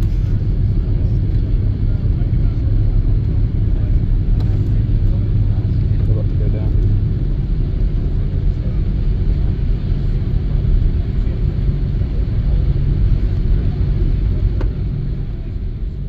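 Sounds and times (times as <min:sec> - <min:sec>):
low rumble of aircraft cabin: 0:00.0 - 0:16.0.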